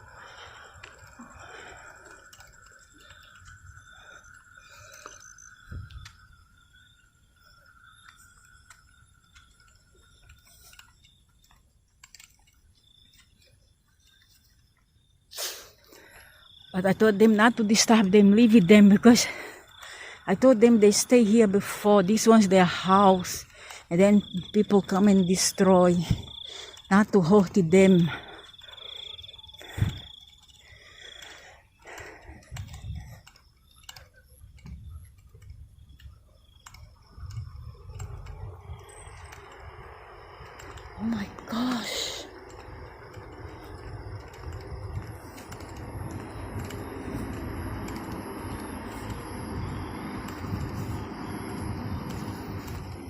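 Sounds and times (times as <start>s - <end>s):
high insect trill: 0.0s - 53.0s
soft clicks and ticks: 0.4s - 6.4s, 7.4s - 15.0s, 15.9s - 53.0s.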